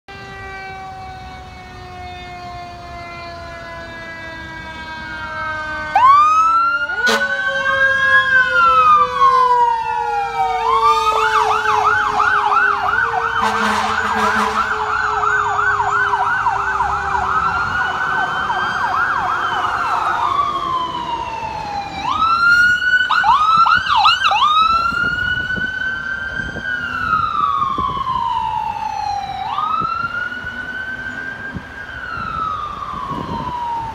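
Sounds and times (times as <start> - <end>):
sirens wailing and yelping: 0.1 - 33.9.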